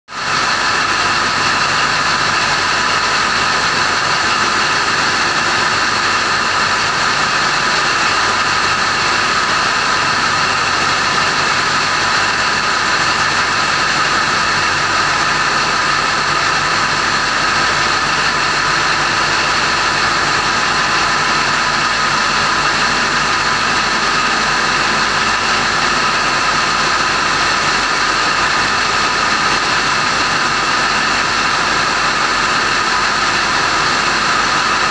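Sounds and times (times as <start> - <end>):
large diesel engine droning: 0.2 - 34.9.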